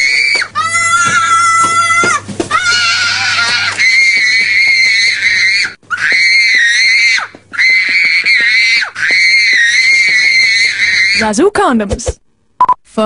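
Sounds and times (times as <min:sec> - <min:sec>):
child screaming: 0:00.0 - 0:11.3.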